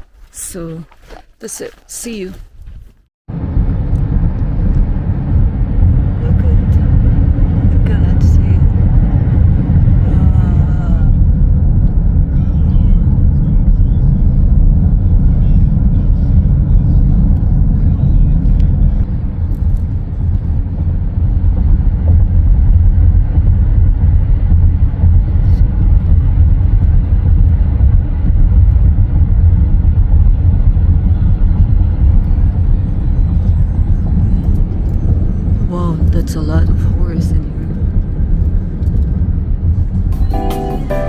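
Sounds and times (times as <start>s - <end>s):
road rumble inside moving van: 0.0s - 41.0s.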